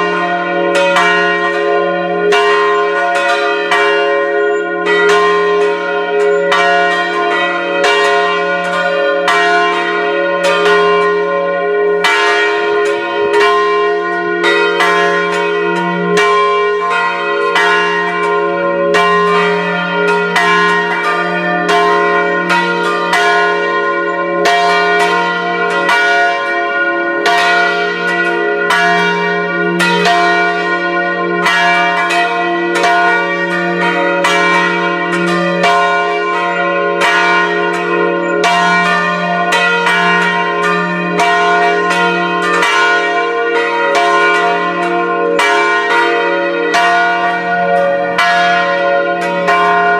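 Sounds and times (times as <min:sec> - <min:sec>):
church bells pealing: 0:00.0 - 0:49.9.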